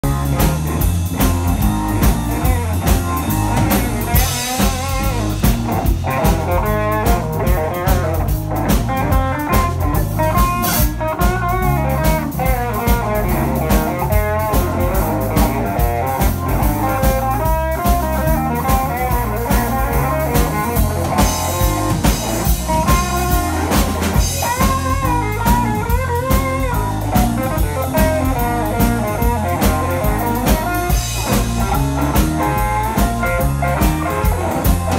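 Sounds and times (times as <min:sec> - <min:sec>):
blues band playing: 0:00.0 - 0:34.9
electric guitar lead lines: 0:00.0 - 0:34.9.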